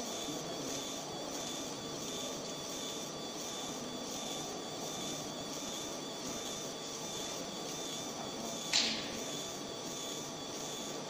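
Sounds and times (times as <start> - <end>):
laser marking machine whirring: 0.0 - 11.0.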